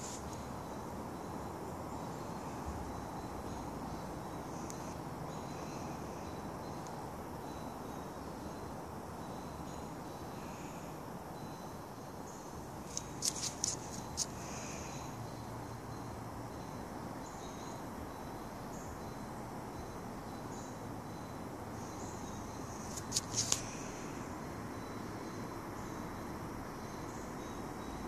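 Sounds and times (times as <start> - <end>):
faint high-pitched chirps: 0.0 - 28.0
outdoor background noise: 0.0 - 28.0.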